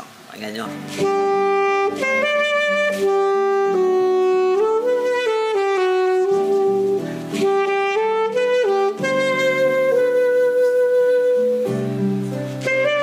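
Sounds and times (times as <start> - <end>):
alto saxophone playing held notes: 0.7 - 13.0.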